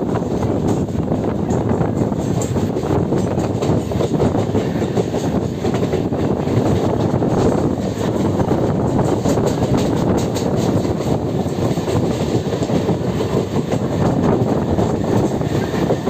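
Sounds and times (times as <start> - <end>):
electric train rumbling: 0.0 - 16.0
wheels clicking over rails: 0.2 - 16.0.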